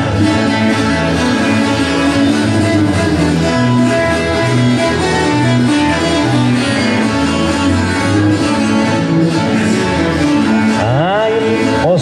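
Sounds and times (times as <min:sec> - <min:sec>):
bass line: 0:00.0 - 0:12.0
guitar-led music: 0:00.0 - 0:12.0.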